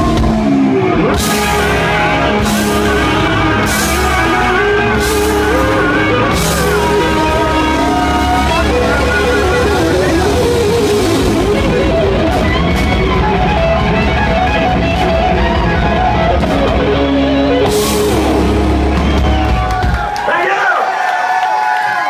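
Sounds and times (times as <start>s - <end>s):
distorted electric guitar: 0.0s - 20.0s
bass guitar: 0.0s - 20.2s
drum kit: 0.0s - 20.2s.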